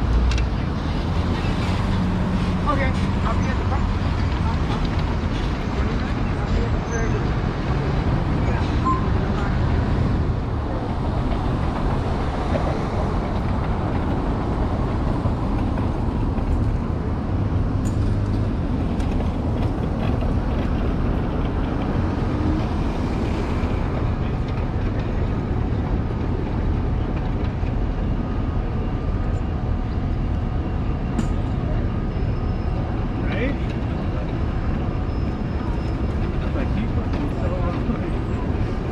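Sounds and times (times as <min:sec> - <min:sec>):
road traffic: 0:00.0 - 0:38.9.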